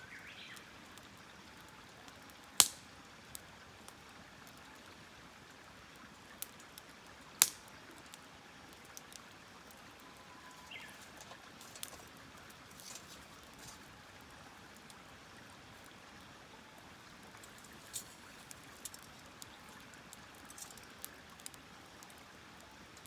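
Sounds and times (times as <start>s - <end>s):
campfire wood crackling: 0.0s - 23.0s.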